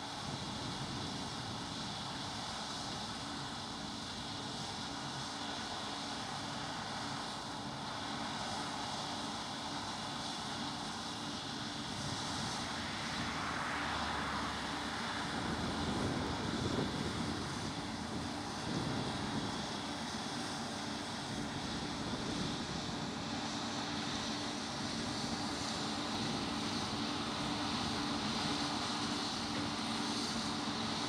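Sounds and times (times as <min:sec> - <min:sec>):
combine harvester drone: 0:00.0 - 0:31.0.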